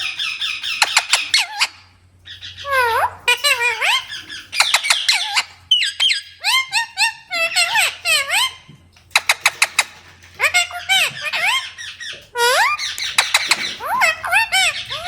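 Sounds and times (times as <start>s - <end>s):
parrot shrill calls: 0.0s - 15.0s.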